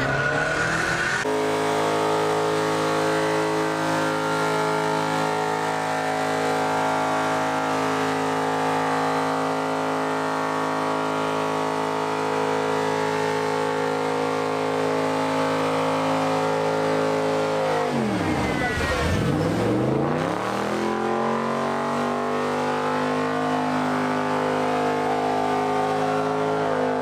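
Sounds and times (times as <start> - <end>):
car engine at high revs: 0.0 - 27.0.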